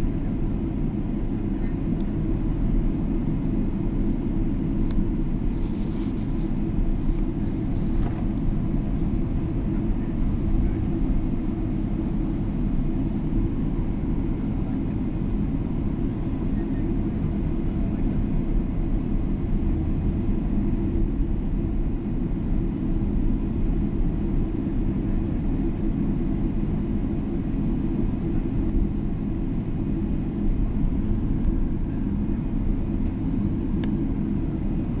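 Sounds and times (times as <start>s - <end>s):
faint steady tones: 0.0s - 35.0s
jet engines rumbling: 0.0s - 35.0s.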